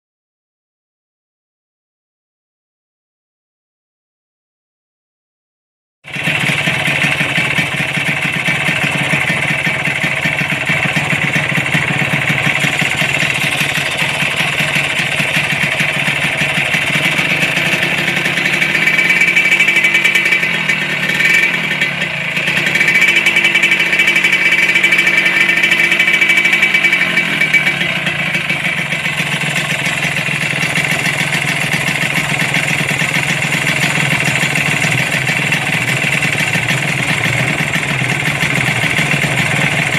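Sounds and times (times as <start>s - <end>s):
two-stroke motorcycle engine rattling: 6.1s - 39.9s.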